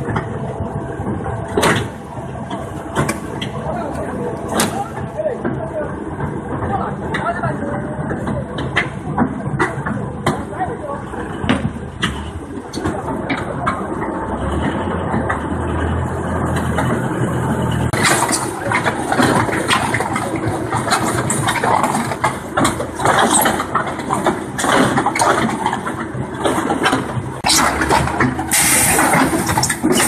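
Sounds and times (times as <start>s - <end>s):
knocks and clatter: 0.0s - 0.4s, 1.0s - 30.0s
concrete pump machine humming: 0.0s - 30.0s
rushing clattering noise: 0.0s - 30.0s.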